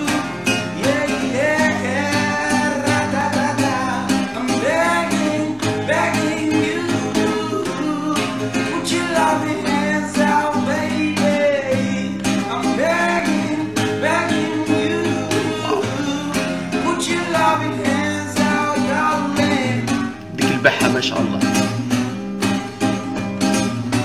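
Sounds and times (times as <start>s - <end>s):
man singing: 0.0s - 21.8s
strummed acoustic guitar: 0.0s - 24.0s.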